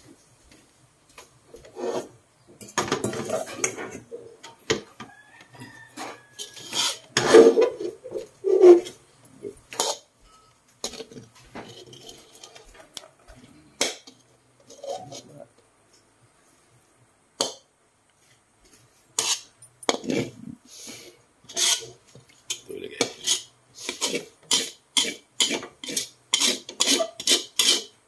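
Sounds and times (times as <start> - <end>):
metal spatula scraping wok: 1.5 - 15.5, 18.6 - 28.0.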